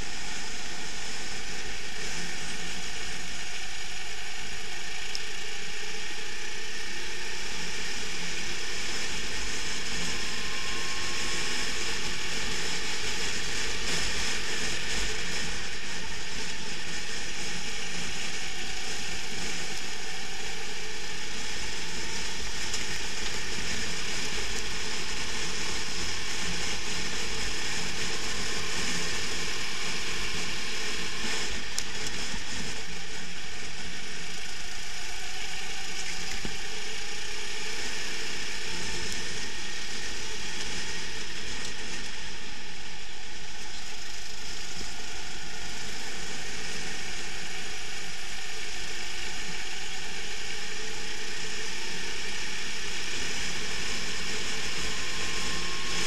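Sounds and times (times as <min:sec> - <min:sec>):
chassis rattle and buzz: 0:00.0 - 0:56.0
go-kart engine running: 0:00.0 - 0:56.0.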